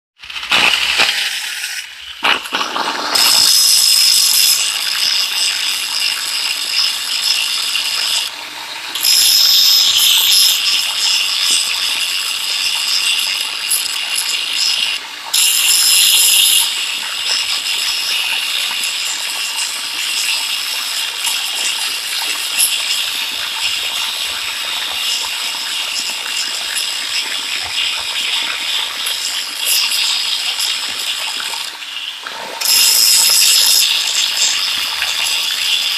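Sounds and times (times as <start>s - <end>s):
angle grinder grinding steel: 0.5s - 8.3s, 8.9s - 31.7s, 32.6s - 35.9s.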